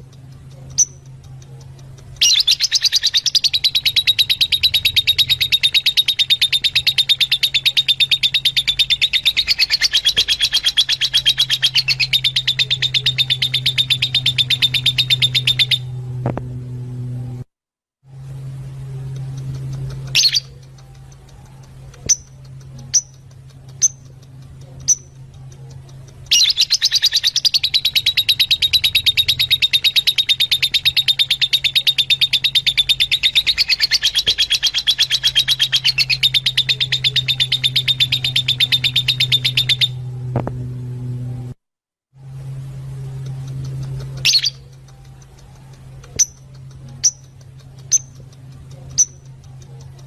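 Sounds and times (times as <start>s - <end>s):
lovebirds chirping: 0.0s - 16.0s, 19.0s - 40.0s, 43.3s - 50.0s
steady low hum: 0.0s - 41.6s, 42.2s - 50.0s.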